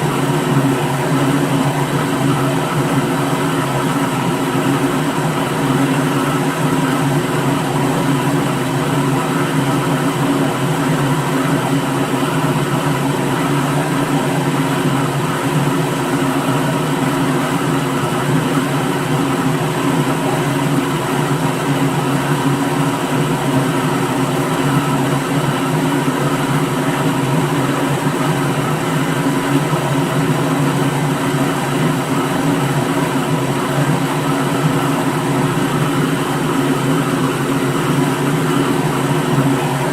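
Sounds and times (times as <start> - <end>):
blender motor running: 0.0 - 39.9.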